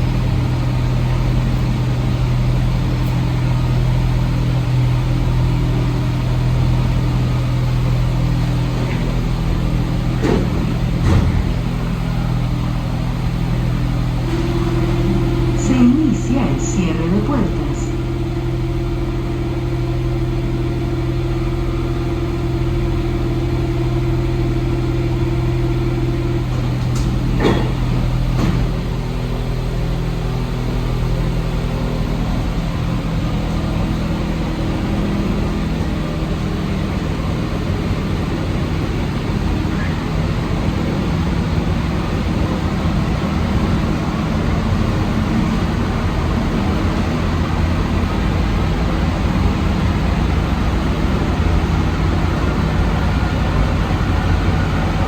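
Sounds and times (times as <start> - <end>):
metro car hum: 0.0 - 55.0
train running noise: 0.0 - 55.0.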